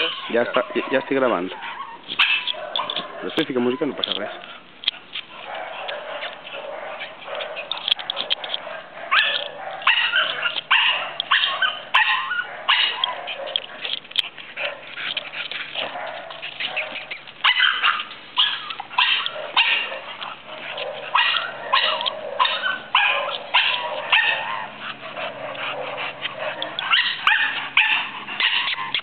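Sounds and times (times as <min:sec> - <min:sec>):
dog yipping and barking: 0:00.0 - 0:14.0, 0:14.6 - 0:29.0.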